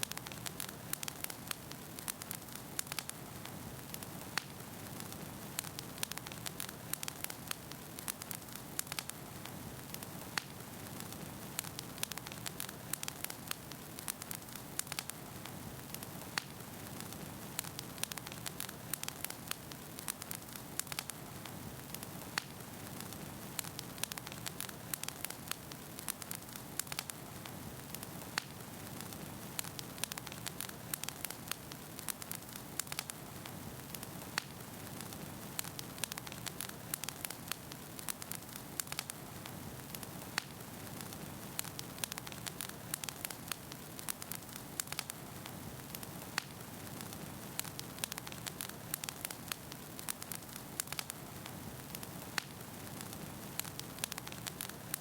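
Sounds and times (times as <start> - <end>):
crackles and pops from logs: 0.0 - 55.0
wood fire burning: 0.0 - 55.0.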